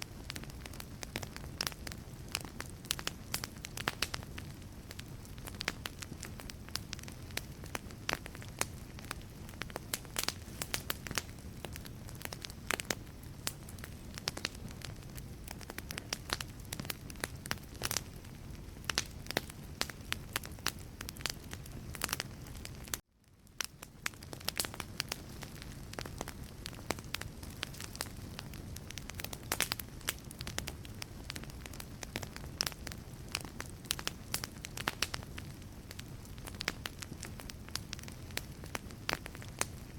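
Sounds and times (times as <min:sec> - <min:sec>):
fire low rumble and hiss: 0:00.0 - 0:39.9
wood fire crackling and popping: 0:00.0 - 0:39.9.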